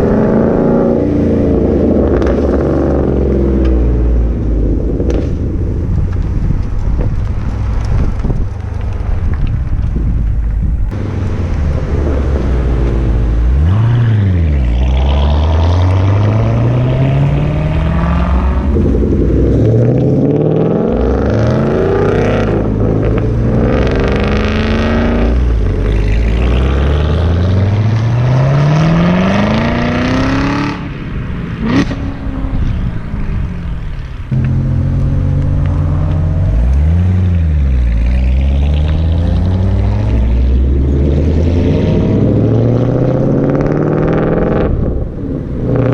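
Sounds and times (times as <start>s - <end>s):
car engine revving: 0.0s - 7.9s, 10.8s - 45.9s
exhaust crack: 0.0s - 45.9s.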